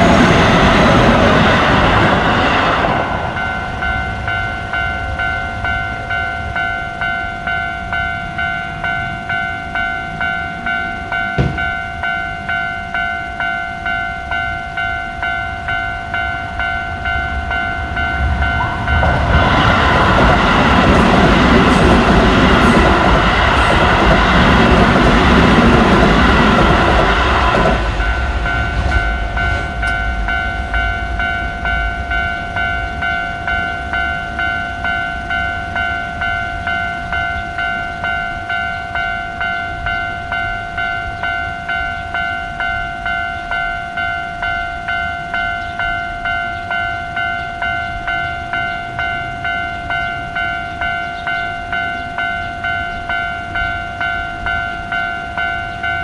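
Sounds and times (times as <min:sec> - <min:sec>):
train passing: 0:00.0 - 0:56.0
level crossing bell ringing: 0:03.3 - 0:19.8, 0:20.4 - 0:56.0.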